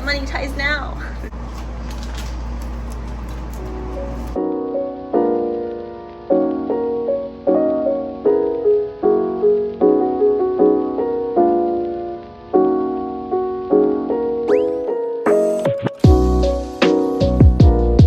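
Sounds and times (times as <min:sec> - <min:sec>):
soft slow piano music: 0:02.7 - 0:18.0.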